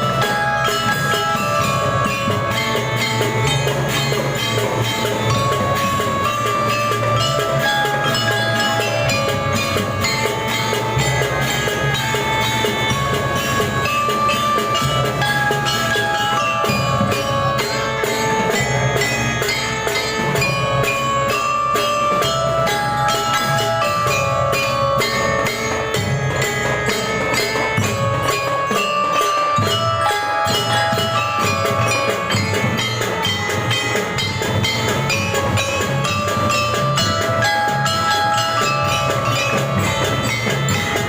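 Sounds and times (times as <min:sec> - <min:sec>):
bell-lyre melody: 0:00.0 - 0:41.0
steady drum beat: 0:00.0 - 0:41.0.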